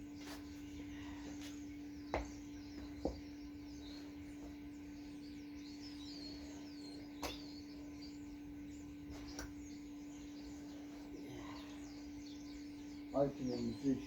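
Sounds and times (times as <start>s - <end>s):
faint birdsong chirps: 0.0s - 14.0s
steady hum: 0.0s - 14.0s.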